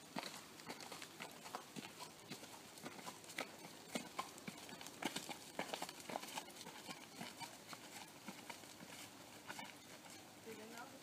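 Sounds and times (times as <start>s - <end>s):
horse hooves on dirt track: 0.0s - 11.0s.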